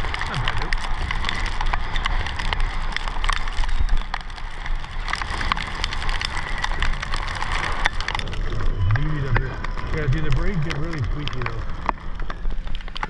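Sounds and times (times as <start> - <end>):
low wind rumble: 0.0 - 13.0
rain ticking on camera: 0.0 - 13.0.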